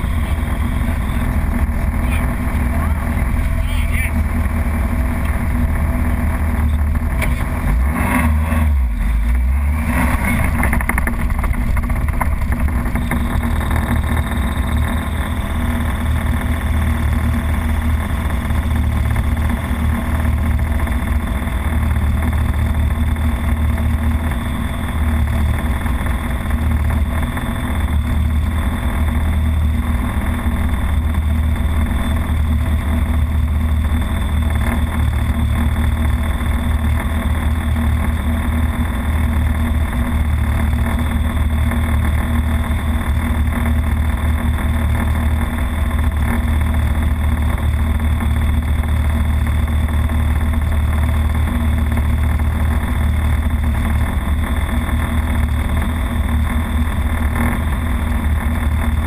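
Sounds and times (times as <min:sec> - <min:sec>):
racing car engine idling unevenly: 0:00.0 - 0:59.0.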